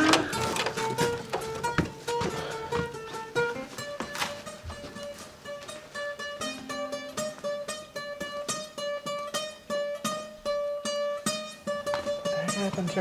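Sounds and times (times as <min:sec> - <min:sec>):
guitar picking: 0:00.0 - 0:13.0.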